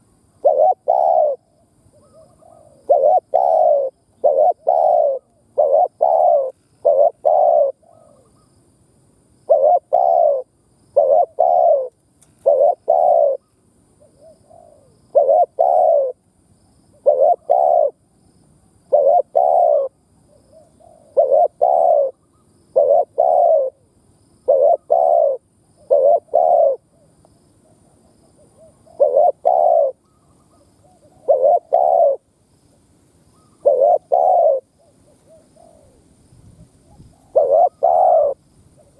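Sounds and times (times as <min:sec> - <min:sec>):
dove cooing: 0:00.0 - 0:08.6, 0:09.5 - 0:16.2, 0:16.9 - 0:18.0, 0:18.9 - 0:32.3, 0:33.3 - 0:38.9.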